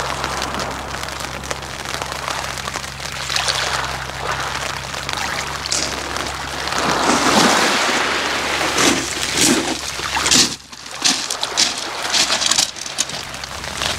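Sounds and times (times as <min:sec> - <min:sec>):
pebbles clicking: 0:00.0 - 0:08.0, 0:08.6 - 0:13.9
waves hissing over pebbles: 0:00.0 - 0:13.9.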